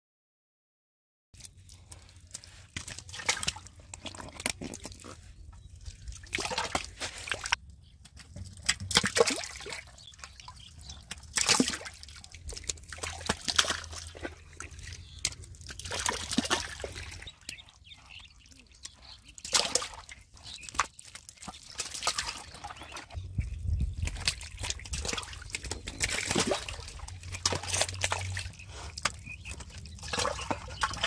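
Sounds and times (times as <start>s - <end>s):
muddy water splashing: 1.4s - 31.0s.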